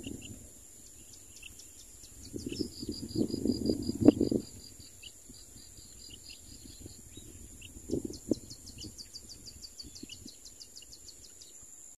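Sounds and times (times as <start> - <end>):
high insect whine: 0.0 - 12.0
small birds chirping: 0.0 - 12.0.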